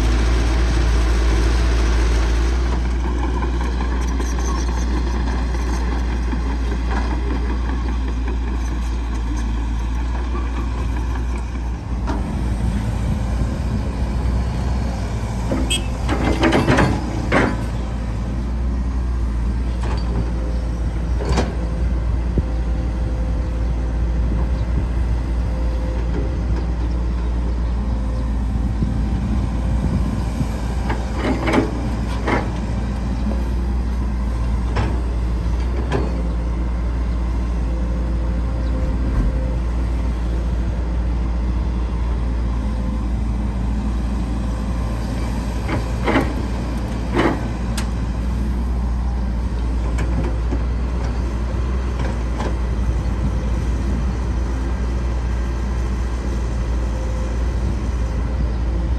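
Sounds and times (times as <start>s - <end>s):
diesel engine low rumble: 0.0s - 58.9s.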